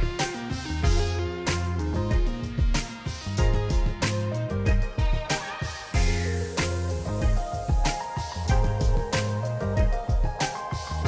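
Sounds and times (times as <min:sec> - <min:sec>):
music with bass and drum beat: 0:00.0 - 0:11.0.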